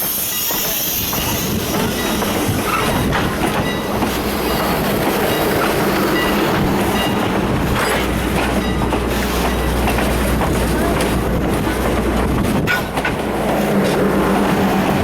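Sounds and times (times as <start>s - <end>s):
train wheels clicking over rail joints: 0.0s - 15.0s.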